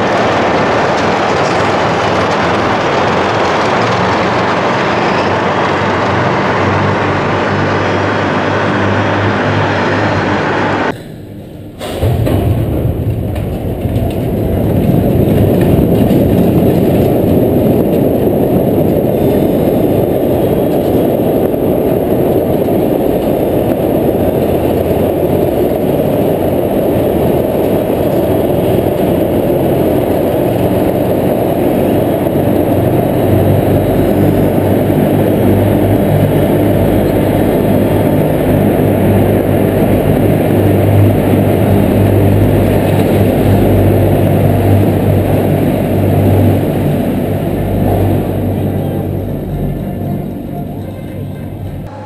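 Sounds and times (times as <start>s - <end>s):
ship hull sliding rumble: 0.0s - 10.9s, 11.8s - 49.8s.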